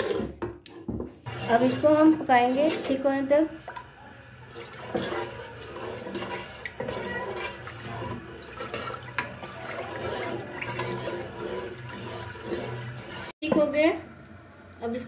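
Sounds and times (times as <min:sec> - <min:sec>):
custard sloshing in saucepan: 0:00.0 - 0:13.4.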